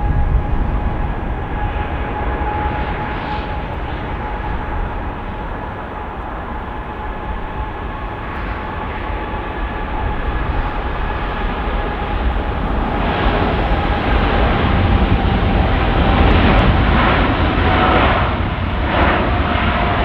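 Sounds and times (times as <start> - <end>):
jet airliner engine rumble and whine: 0.0 - 20.0.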